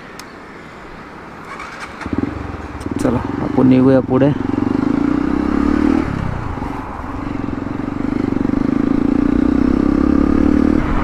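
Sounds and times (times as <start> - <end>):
motorcycle engine running: 1.5 - 11.0.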